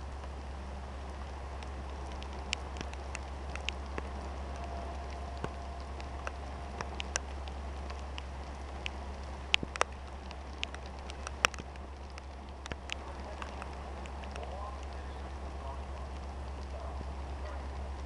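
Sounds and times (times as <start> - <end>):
low hum: 0.0 - 18.0
rain hissing: 0.0 - 18.0
raindrops plinking on window sill: 0.0 - 18.0.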